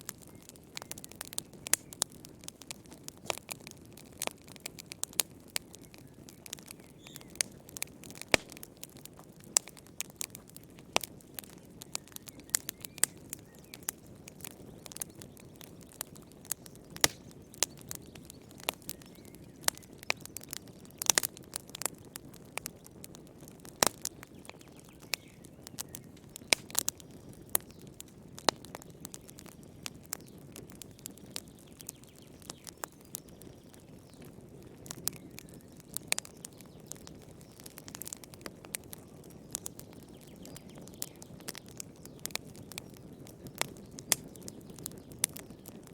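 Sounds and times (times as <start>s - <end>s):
low rustle of burning: 0.0s - 45.9s
wood fire crackling: 0.0s - 45.9s.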